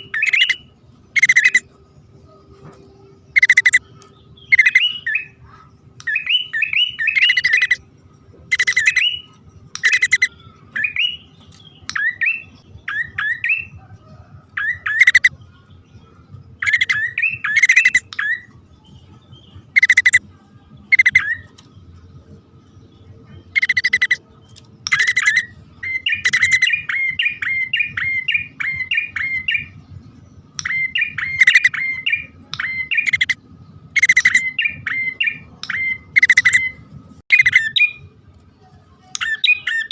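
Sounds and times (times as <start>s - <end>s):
prinia birds calling: 0.0s - 38.1s, 39.0s - 39.9s.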